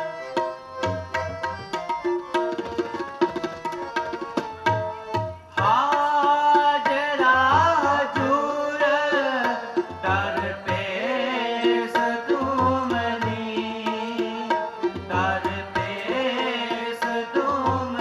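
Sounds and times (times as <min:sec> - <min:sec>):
person singing devotional melody: 0:00.0 - 0:18.0
tabla beat: 0:00.0 - 0:18.0.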